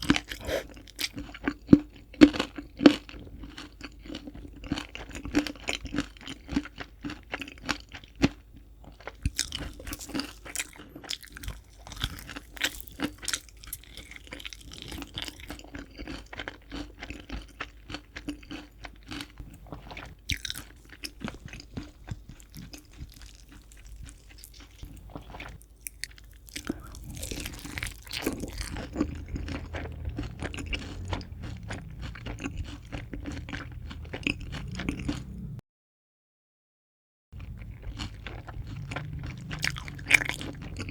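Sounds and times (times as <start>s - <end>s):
crunchy chewing: 0.0s - 35.6s, 37.4s - 40.9s.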